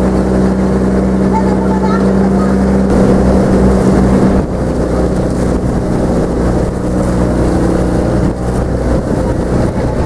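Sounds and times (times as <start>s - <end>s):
boat engine humming: 0.0s - 10.0s
rushing water: 0.0s - 10.0s
wind on microphone: 0.0s - 10.0s.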